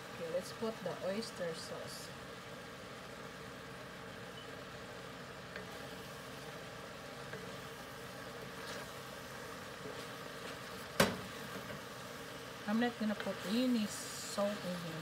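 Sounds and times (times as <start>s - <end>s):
stir-fry cooking in skillet: 0.0s - 15.0s
stove hum and hiss: 0.0s - 15.0s.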